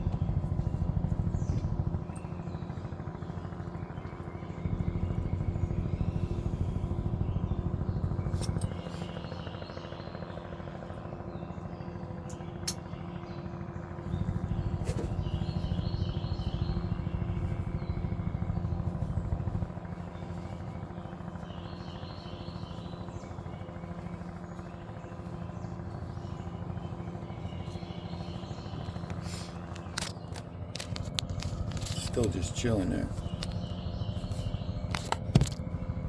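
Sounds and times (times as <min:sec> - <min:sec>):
helicopter engine hum: 0:00.0 - 0:36.0
helicopter rotor beating: 0:00.0 - 0:36.0.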